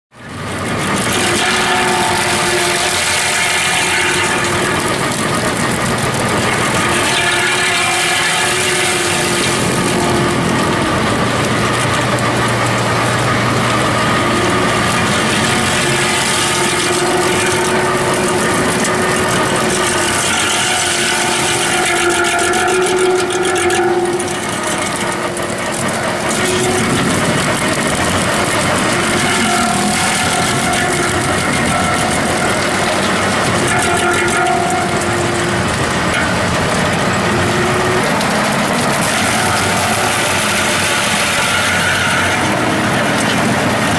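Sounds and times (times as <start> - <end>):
stump crusher grinding: 0.1 - 43.9
tractor engine under load: 0.1 - 43.9.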